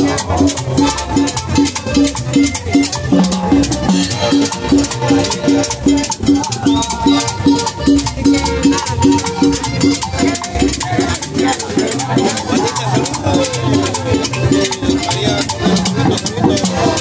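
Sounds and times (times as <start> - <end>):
latin dance music: 0.0 - 17.0.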